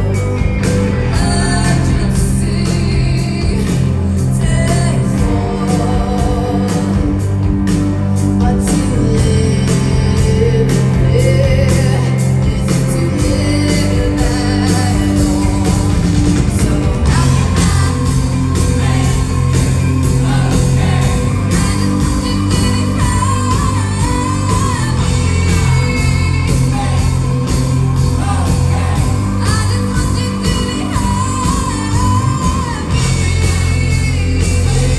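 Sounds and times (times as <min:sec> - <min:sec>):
live rock band playing: 0:00.0 - 0:34.9
woman singing lead vocal: 0:00.0 - 0:34.9.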